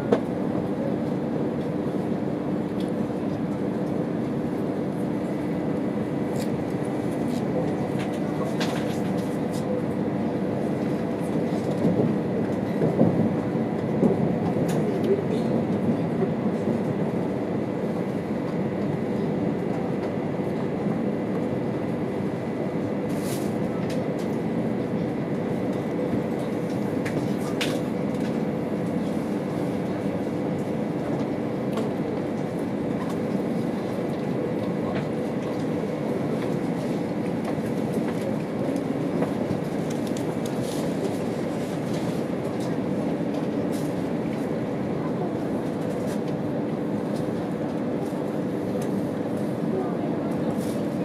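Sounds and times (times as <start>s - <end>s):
train cabin rumble: 1.8s - 51.0s.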